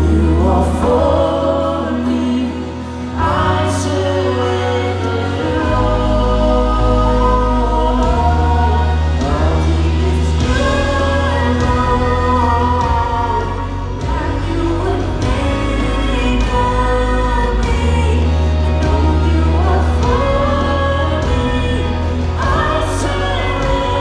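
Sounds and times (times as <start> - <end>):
electric guitar: 0.0 - 24.0
people singing into microphones: 0.0 - 24.0
sustained bass notes: 0.0 - 24.0.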